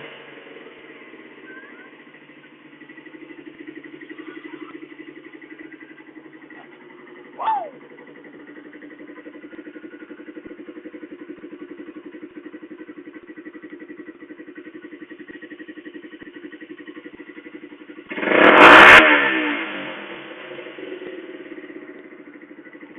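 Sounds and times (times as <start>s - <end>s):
loud motorcycle exhaust idling: 0.0s - 22.9s.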